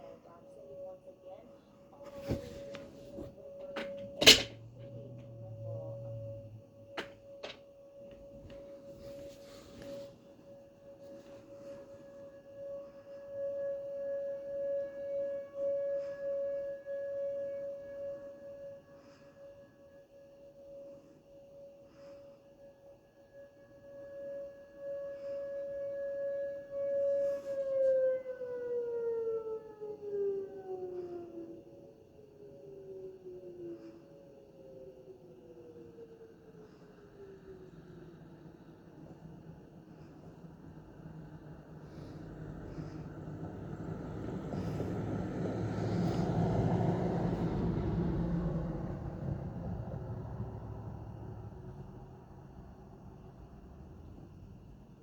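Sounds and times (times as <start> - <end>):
faint steady tone: 0.0 - 55.0.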